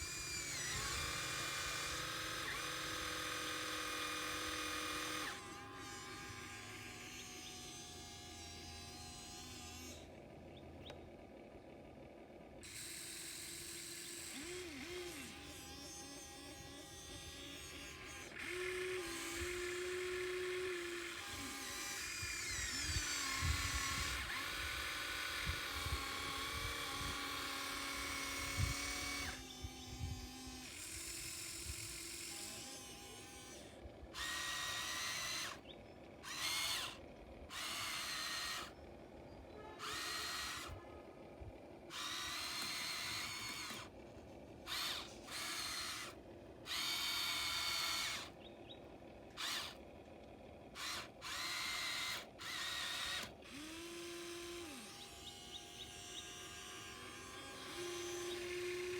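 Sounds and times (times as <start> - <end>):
small electric motor whining: 0.0 - 11.0, 12.6 - 58.9.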